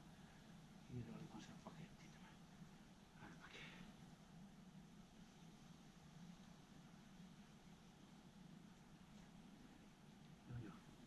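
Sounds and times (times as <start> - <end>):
faint steady low hum: 0.0 - 11.0.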